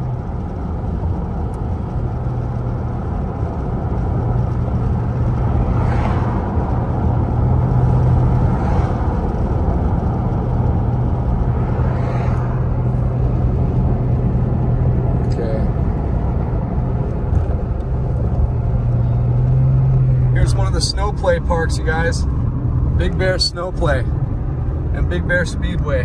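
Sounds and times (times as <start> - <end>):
road and engine noise in car: 0.0 - 26.0
cars swishing past: 4.6 - 26.0.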